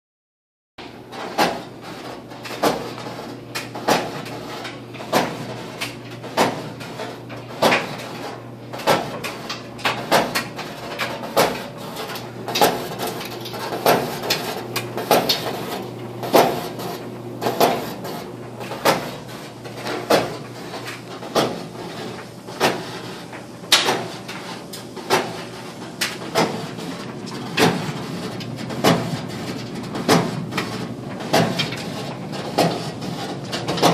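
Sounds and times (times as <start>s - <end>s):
clothes dryer humming: 0.8s - 33.9s.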